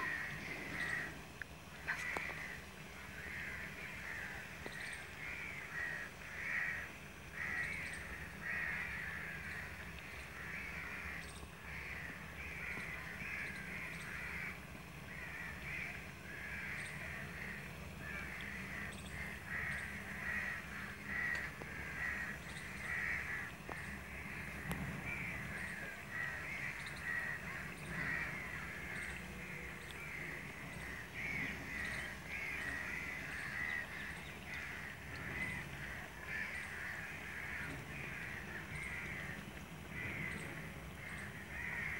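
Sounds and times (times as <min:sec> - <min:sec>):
crows cawing: 0:00.0 - 0:01.2, 0:01.8 - 0:41.9.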